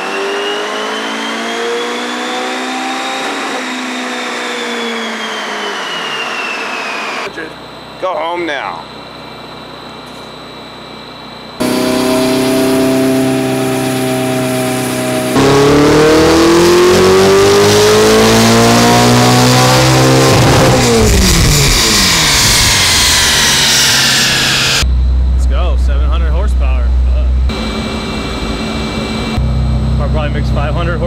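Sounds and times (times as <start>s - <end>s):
turbocharged car engine revving: 0.0s - 7.3s, 11.6s - 31.0s.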